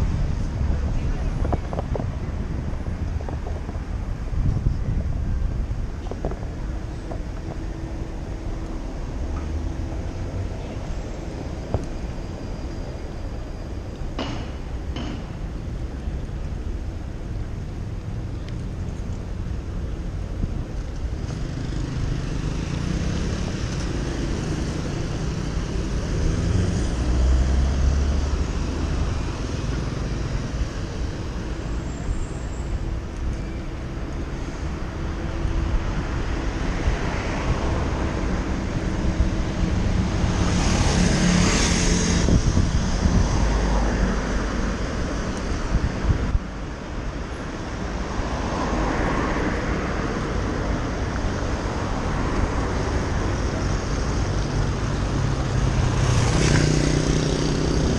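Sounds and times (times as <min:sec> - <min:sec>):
passing cars: 0:00.0 - 0:57.9
wind rumble on microphone: 0:00.0 - 0:57.9.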